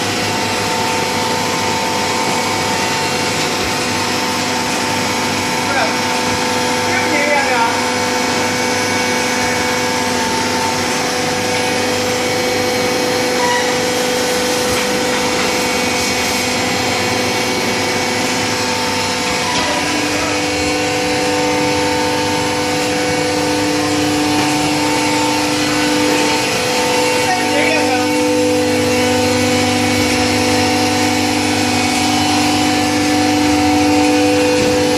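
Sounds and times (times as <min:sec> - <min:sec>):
baler machine hum: 0:00.0 - 0:34.9
hydraulic pump whining: 0:00.0 - 0:34.9.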